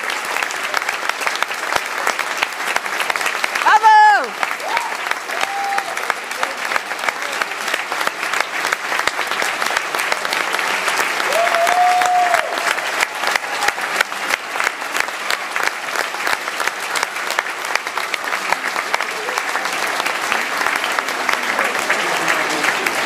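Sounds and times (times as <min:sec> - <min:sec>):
audience applauding: 0:00.0 - 0:23.0
long call over clapping: 0:00.0 - 0:23.0.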